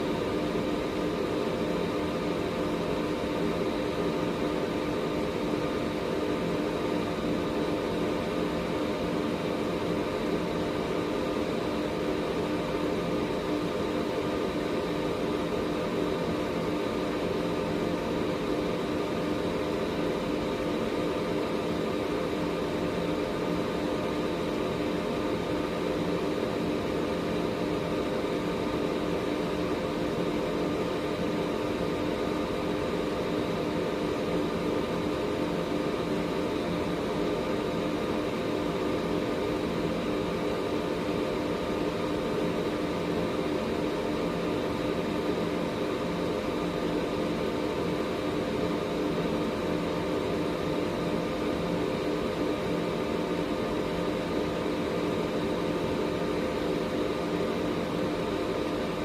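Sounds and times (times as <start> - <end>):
air purifier fan running: 0.0 - 59.0.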